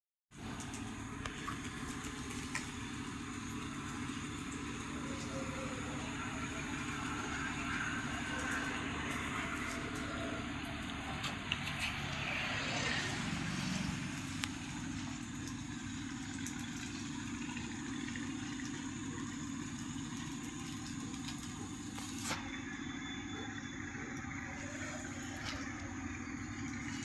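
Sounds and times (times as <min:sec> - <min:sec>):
engine running steadily: 0:00.3 - 0:27.0.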